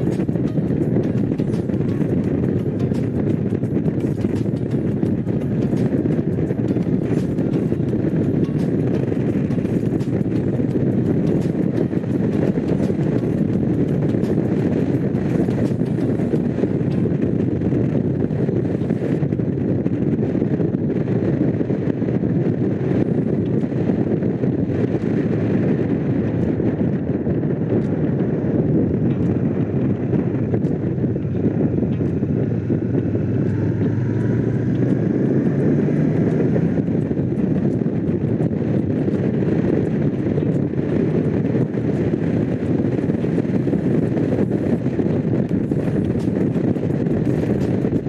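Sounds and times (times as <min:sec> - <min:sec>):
motorcycle engine cruising: 0:00.0 - 0:48.0
wind noise on microphone: 0:00.0 - 0:48.0.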